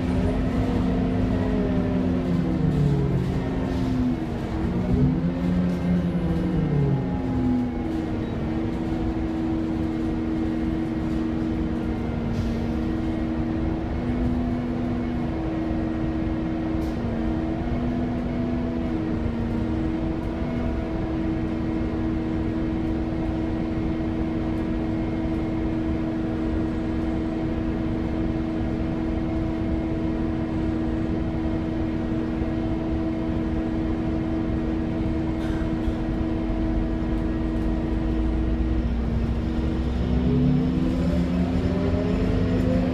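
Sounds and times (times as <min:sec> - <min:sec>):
bus diesel engine humming: 0:00.0 - 0:42.9.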